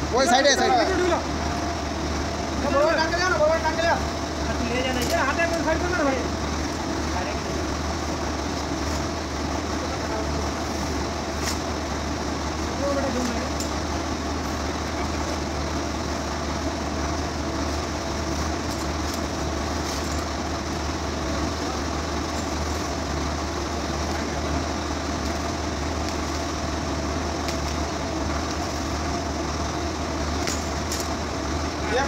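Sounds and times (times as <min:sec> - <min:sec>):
industrial machinery hum: 0:00.0 - 0:32.0.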